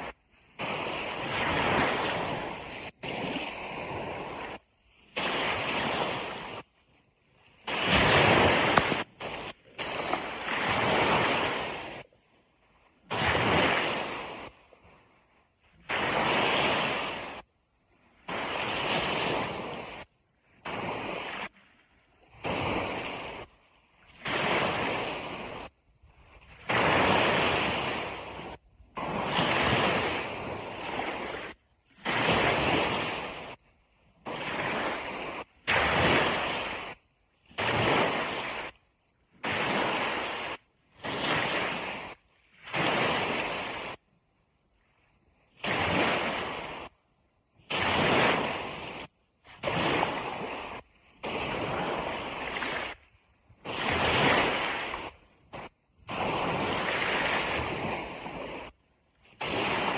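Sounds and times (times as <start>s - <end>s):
ocean surf washing on beach: 0.0s - 59.9s.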